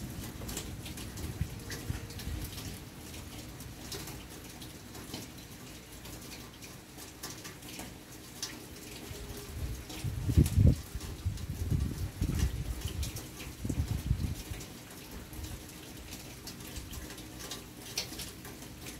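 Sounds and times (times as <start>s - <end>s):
drops dripping and ticking: 0.0s - 18.9s
rain falling: 0.0s - 18.9s.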